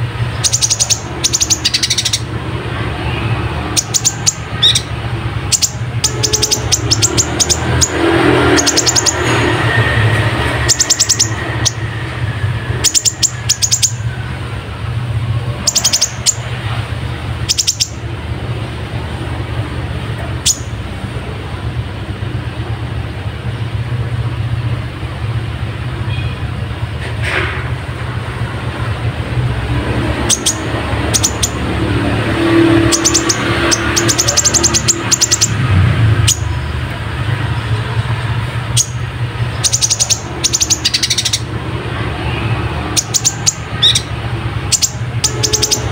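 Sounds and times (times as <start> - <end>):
sunbird chips and trills: 0.0 - 14.8, 15.4 - 21.4, 29.8 - 45.9.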